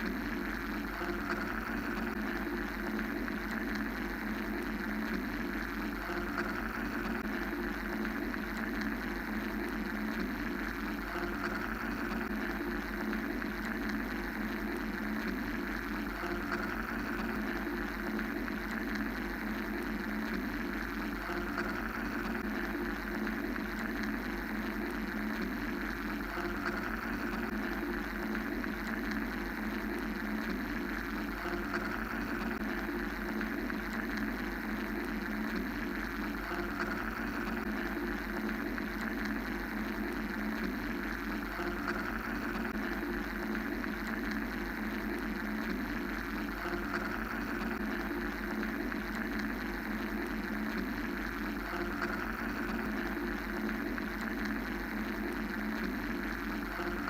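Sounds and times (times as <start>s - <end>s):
mechanical white noise drone: 0.0s - 57.0s.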